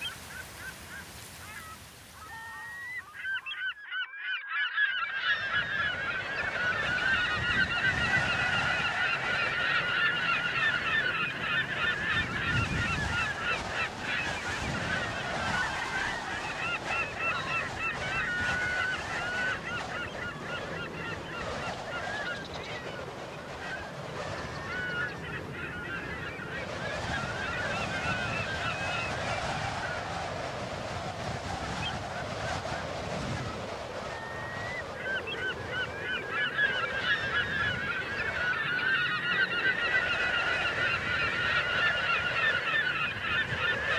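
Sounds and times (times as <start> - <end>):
flamingos honking: 0.0 - 30.1, 31.7 - 43.9.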